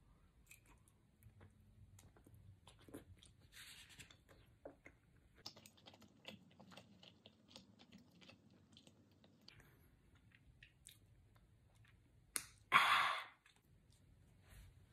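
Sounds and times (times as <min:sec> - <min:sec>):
faint chewing: 0:00.4 - 0:12.7.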